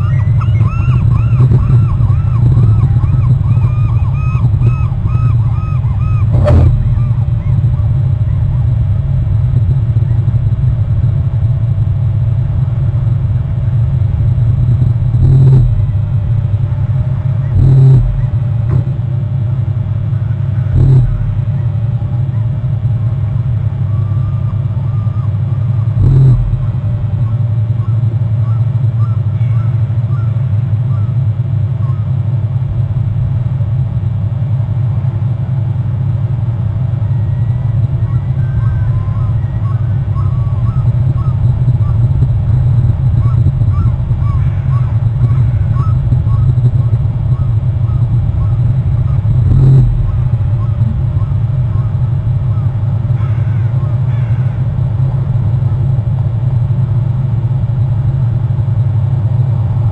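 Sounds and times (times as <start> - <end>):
low rumble: 0.0 - 59.9.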